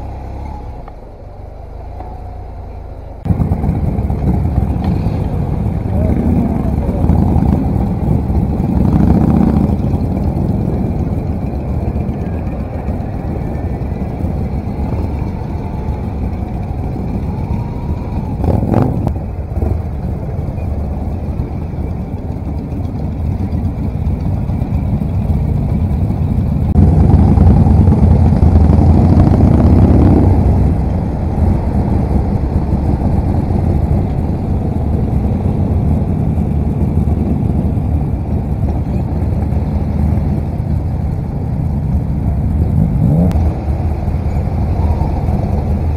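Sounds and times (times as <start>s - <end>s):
wind and road noise: 0.0s - 45.9s
motorcycle engine running: 1.9s - 45.9s.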